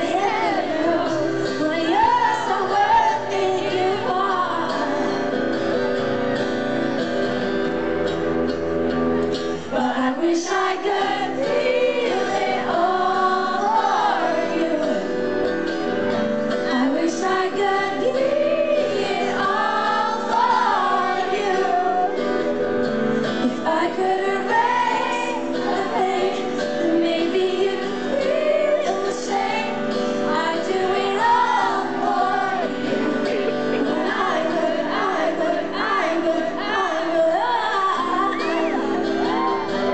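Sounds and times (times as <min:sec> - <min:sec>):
woman singing: 0:00.0 - 0:05.5, 0:09.7 - 0:15.3, 0:16.6 - 0:22.6, 0:23.3 - 0:39.9
live pop band: 0:00.0 - 0:39.9.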